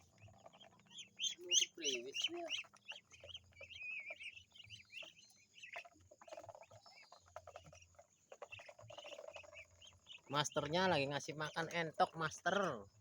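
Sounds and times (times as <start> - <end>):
birds chirping and peeping: 0.0 - 13.0.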